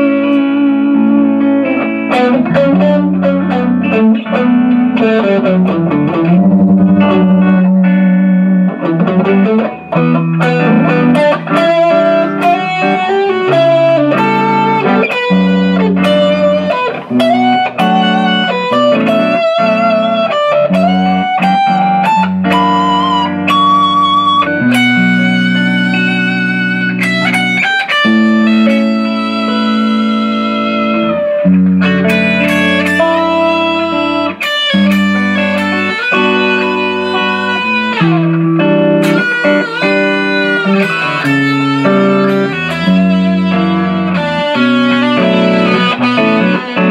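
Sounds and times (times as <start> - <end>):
electric guitar lead with vibrato: 0.0 - 46.9
looped chord backing: 0.0 - 46.9.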